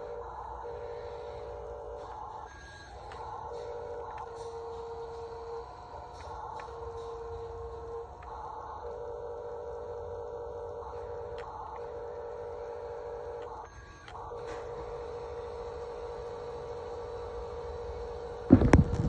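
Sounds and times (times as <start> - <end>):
small electric motor humming: 0.0 - 19.0.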